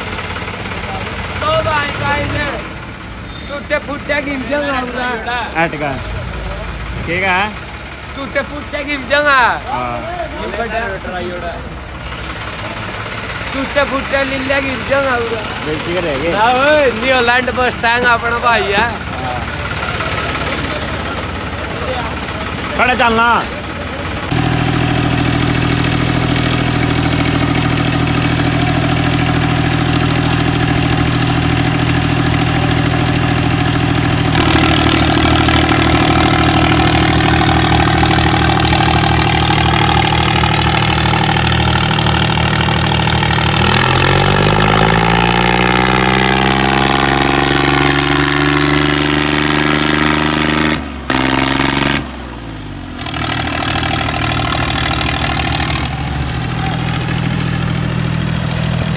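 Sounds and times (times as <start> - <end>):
tractor diesel engine revving: 0.0 - 58.9.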